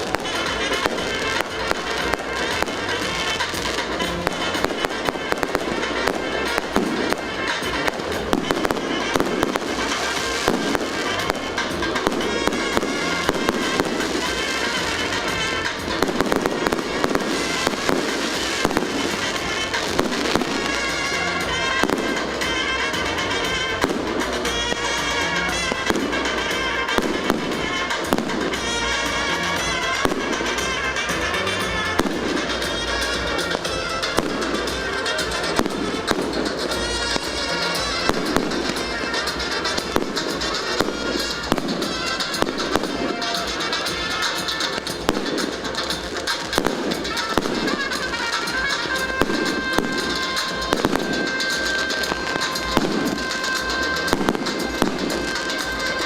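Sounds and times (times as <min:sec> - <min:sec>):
fireworks crackling and banging: 0:00.0 - 0:56.0
music playing: 0:00.0 - 0:56.0.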